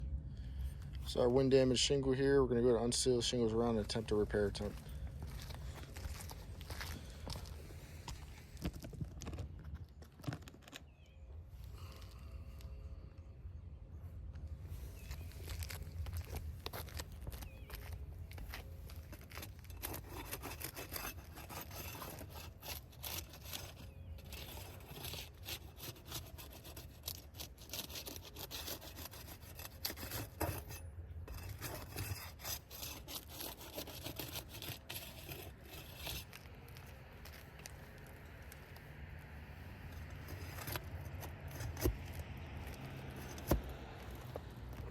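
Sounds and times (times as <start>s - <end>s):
tool scraping under shingles: 2.6s - 12.3s, 14.6s - 44.9s.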